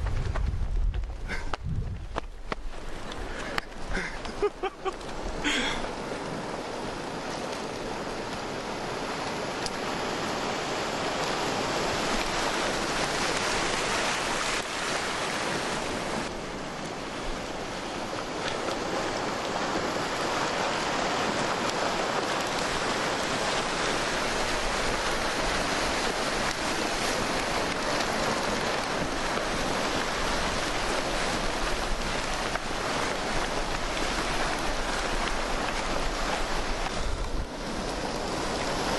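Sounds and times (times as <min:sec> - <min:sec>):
flood water rushing: 0:02.2 - 0:38.9.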